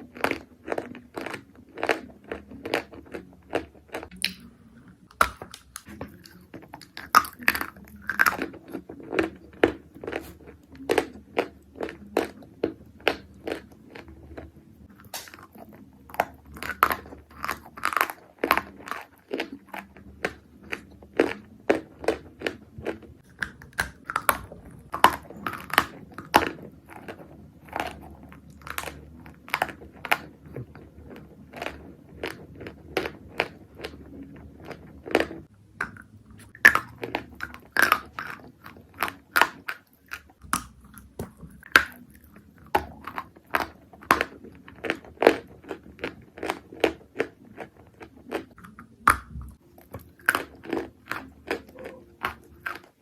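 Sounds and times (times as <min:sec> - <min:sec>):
chewing dry crunches: 0:00.0 - 0:53.0.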